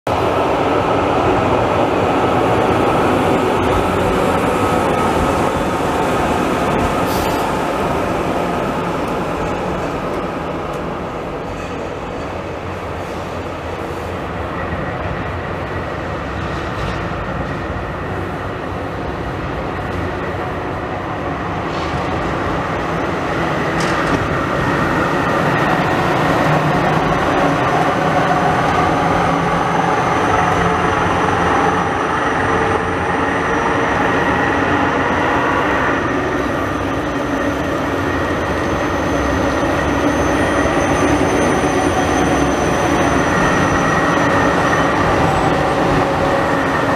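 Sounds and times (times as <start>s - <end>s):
tram high whine: 0.1s - 46.9s
tram wheels rumbling on track: 0.1s - 46.9s.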